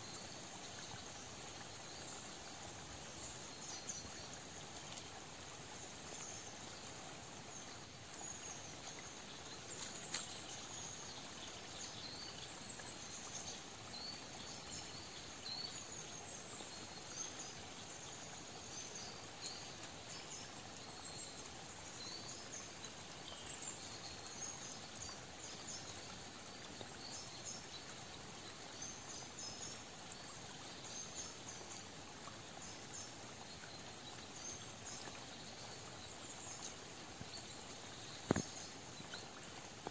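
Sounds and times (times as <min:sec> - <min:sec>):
soft forest hiss: 0:00.0 - 0:39.9.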